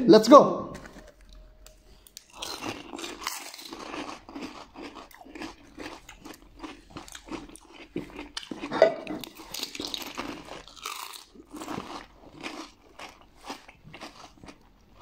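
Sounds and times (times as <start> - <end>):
crisp shells crunching: 2.2 - 14.3.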